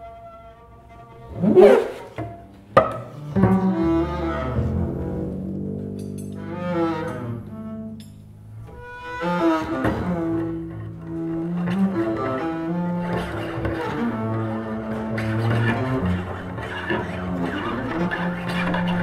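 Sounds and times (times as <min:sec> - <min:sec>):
bowed double basses: 0:00.0 - 0:19.0.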